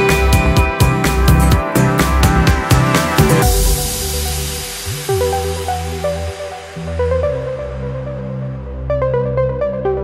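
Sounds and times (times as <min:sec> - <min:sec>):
electronic synth music: 0:00.0 - 0:10.0.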